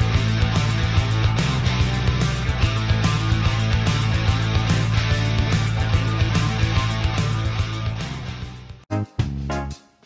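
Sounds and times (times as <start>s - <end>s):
music with fast steady beat: 0.0s - 10.0s.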